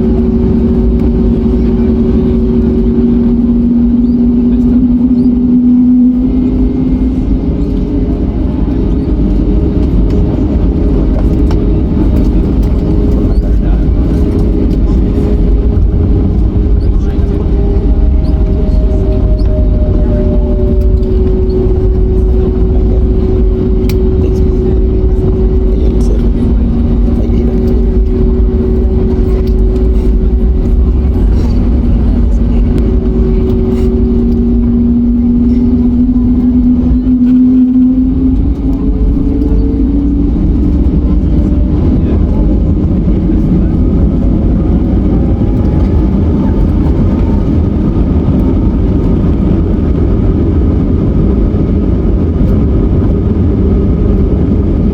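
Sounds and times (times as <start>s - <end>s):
jet engines rumbling and whining: 0.0s - 54.9s.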